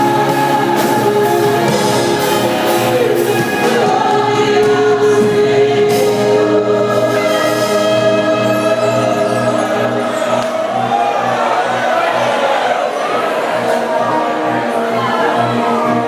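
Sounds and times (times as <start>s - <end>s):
choir singing gospel music: 0.0s - 16.0s
instrumental backing: 0.0s - 16.0s.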